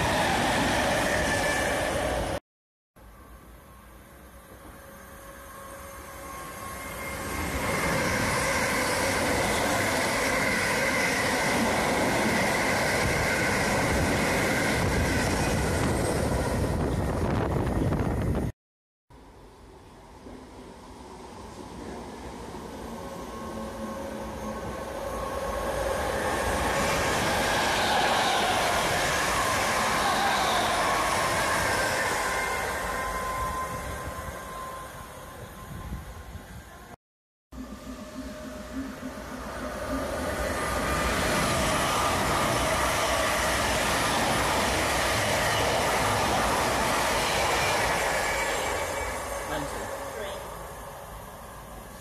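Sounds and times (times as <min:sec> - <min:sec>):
passenger train passing: 0:00.0 - 0:02.4, 0:03.0 - 0:18.5, 0:19.2 - 0:37.0, 0:37.6 - 0:52.0.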